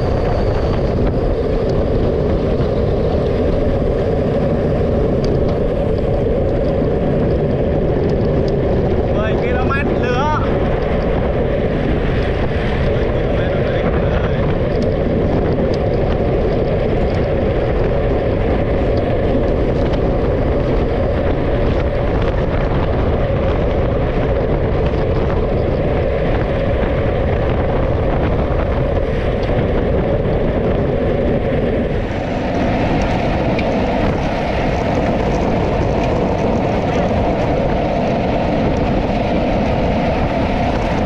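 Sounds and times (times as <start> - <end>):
vehicle noise: 0.0 - 41.0
wind rushing over microphone: 0.0 - 41.0.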